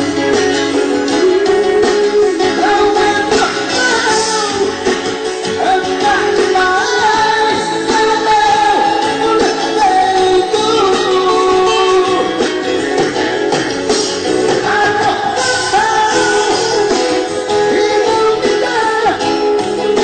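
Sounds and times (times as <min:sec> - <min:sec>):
person singing: 0:00.0 - 0:13.0, 0:14.4 - 0:20.0
live band playing: 0:00.0 - 0:20.0.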